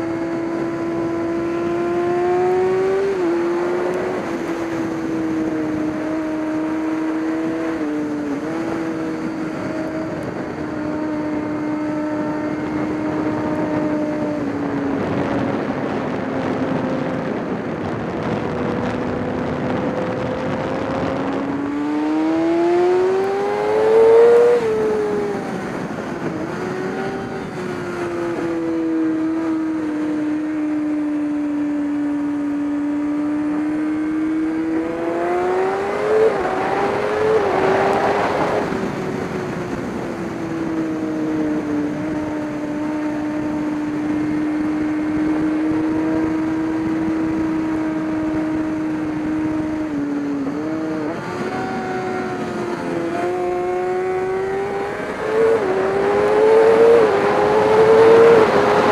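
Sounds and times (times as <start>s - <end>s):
race car engine revving: 0.0s - 16.6s, 17.2s - 58.9s.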